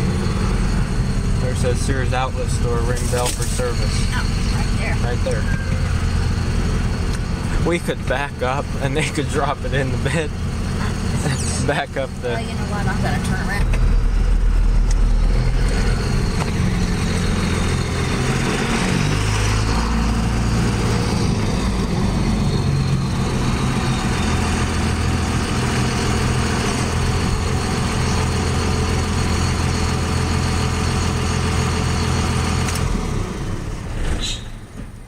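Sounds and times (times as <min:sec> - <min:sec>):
pickup truck engine running: 0:00.0 - 0:35.0.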